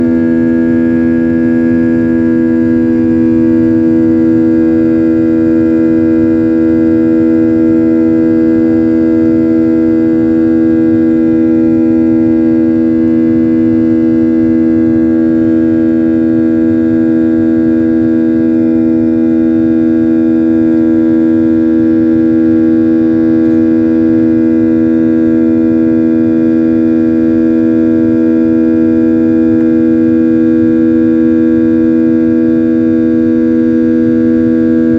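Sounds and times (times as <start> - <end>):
jet engine drone in cabin: 0.0 - 34.9.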